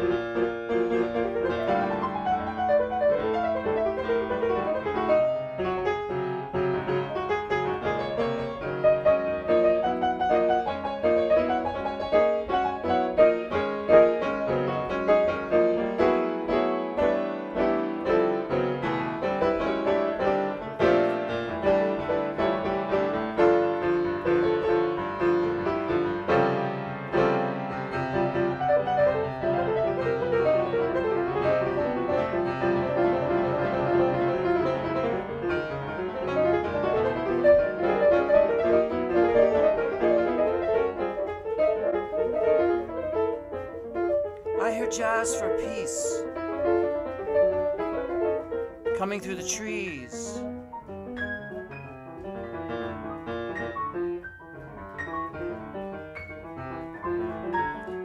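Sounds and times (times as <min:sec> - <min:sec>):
jazz piano playing: 0:00.0 - 0:58.0.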